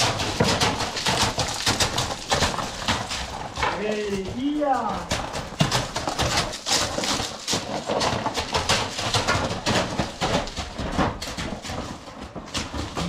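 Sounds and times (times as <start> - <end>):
horse hooves knocking on ground: 0.0 - 13.0.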